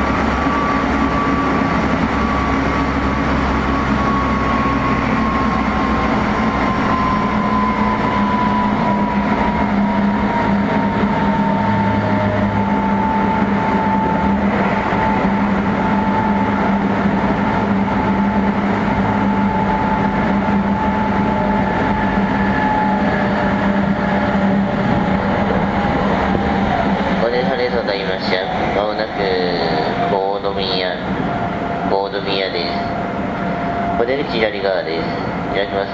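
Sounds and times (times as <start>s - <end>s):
train motor whine: 0.0s - 35.9s
wheels rumbling on rail: 0.0s - 35.9s.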